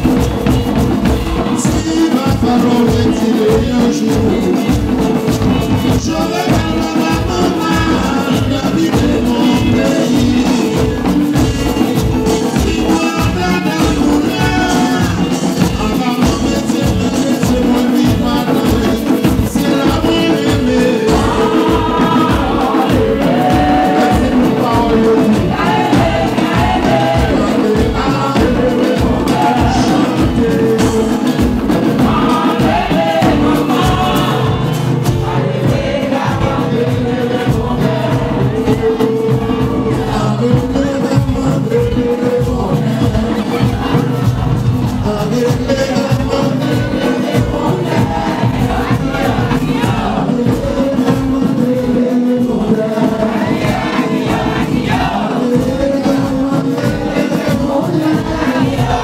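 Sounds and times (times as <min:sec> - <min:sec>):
large hand drums beating: 0:00.0 - 0:59.0
lead vocals singing: 0:00.0 - 0:59.0.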